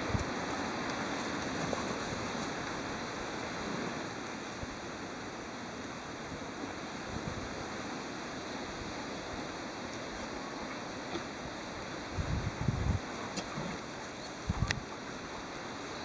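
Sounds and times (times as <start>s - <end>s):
steady rushing outdoor noise: 0.0s - 16.0s.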